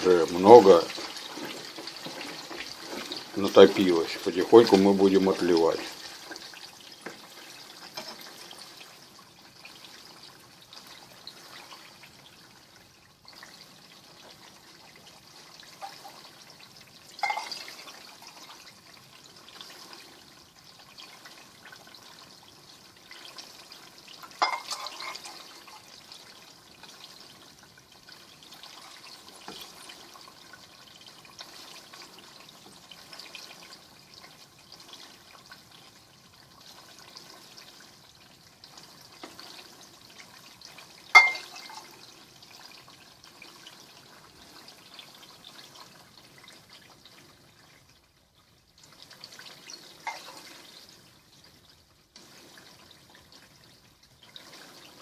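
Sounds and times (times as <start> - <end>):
liquid fat trickling and dripping: 0.0 - 55.0.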